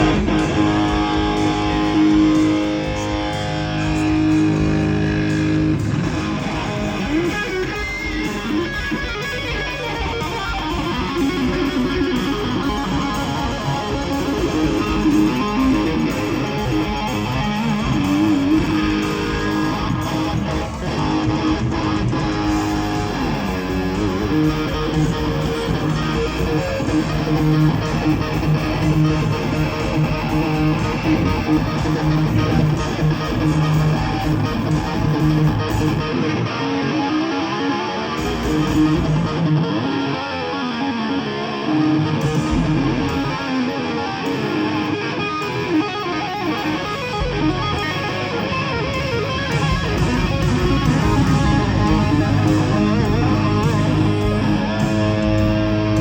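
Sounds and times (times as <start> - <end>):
electric guitar playing: 0.0 - 56.0
live rock music: 0.0 - 56.0.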